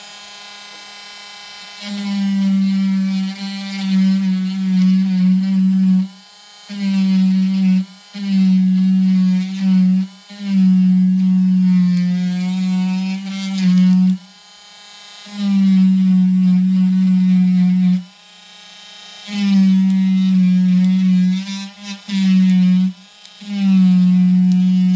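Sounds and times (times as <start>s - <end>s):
rotary tool grinding wood: 0.0s - 24.9s.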